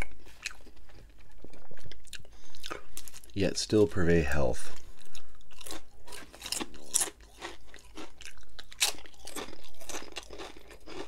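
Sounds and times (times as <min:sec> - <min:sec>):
crunching and chewing chip: 0:00.0 - 0:03.4, 0:04.7 - 0:11.0.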